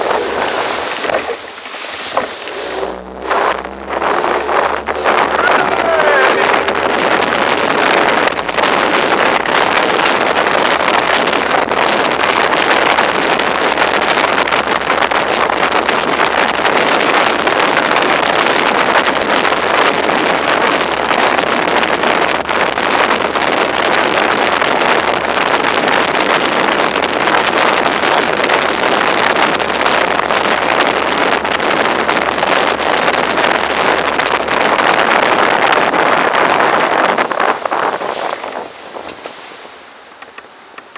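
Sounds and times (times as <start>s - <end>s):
wind and water rushing: 0.0s - 40.9s
wind buffeting microphone: 0.0s - 40.9s.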